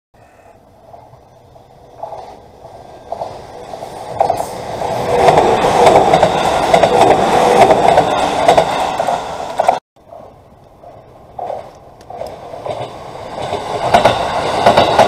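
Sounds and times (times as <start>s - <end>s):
train passing close by: 0.2s - 15.0s
wheels clattering over rails: 1.9s - 15.0s.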